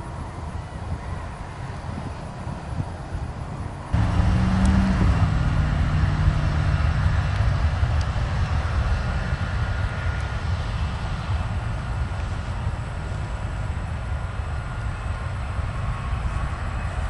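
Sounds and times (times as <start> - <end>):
jet engine whine: 0.0 - 17.0
jet engines rumbling: 0.0 - 17.0
wind noise: 0.0 - 17.0.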